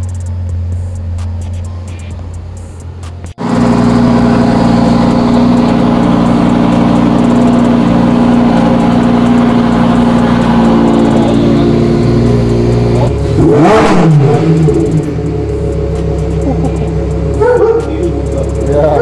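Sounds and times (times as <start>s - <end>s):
sports car engine idling and revving: 0.0s - 19.0s.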